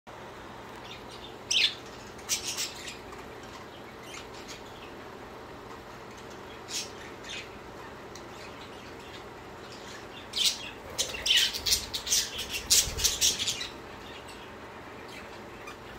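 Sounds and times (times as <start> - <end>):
budgerigars chirping and squawking: 0.9 - 5.0, 6.2 - 15.9.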